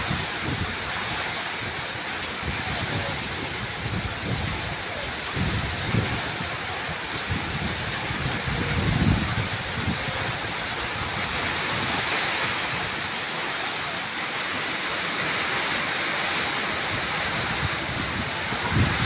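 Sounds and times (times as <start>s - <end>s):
heavy rain pouring: 0.0s - 19.0s
wind gusts rumbling on microphone: 0.0s - 19.0s.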